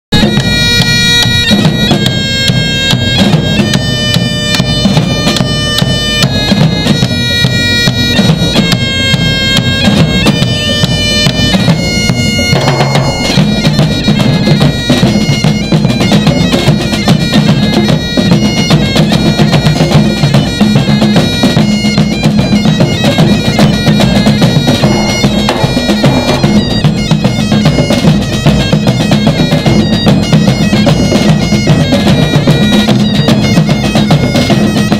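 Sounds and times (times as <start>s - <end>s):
drums beating: 0.1s - 34.9s
bagpipes playing a tune: 0.2s - 34.9s.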